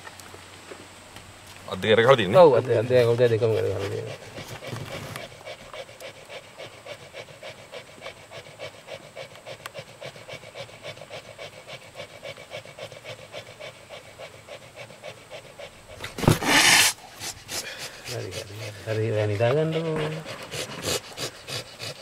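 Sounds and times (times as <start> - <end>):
cat panting: 2.6 - 16.2, 16.9 - 22.0.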